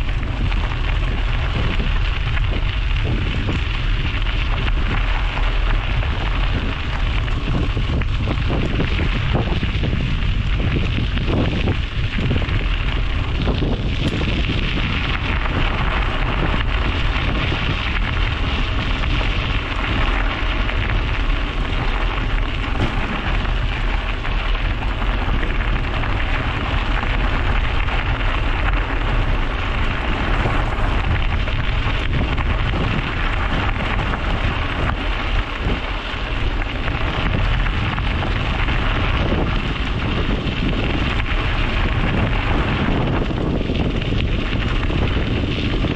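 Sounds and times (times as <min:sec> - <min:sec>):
bicycle tyres rolling on road: 0:00.0 - 0:45.9
wind rushing over microphone: 0:00.0 - 0:45.9.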